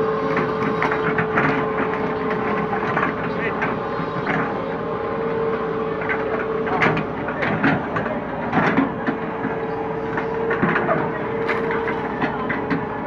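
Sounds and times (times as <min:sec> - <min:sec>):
excavator engine whine: 0:00.0 - 0:13.0.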